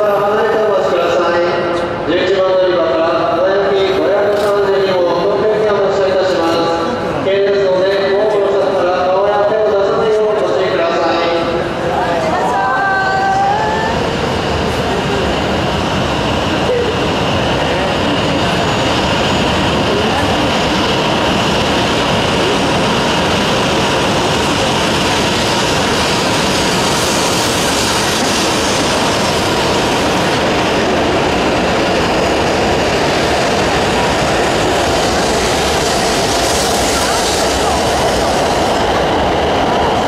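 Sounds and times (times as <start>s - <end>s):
train wheels and motors running: 0.0s - 40.0s.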